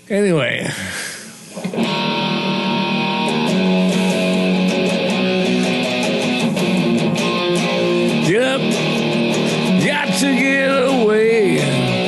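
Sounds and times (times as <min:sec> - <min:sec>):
strummed guitar chords: 0:01.6 - 0:12.0.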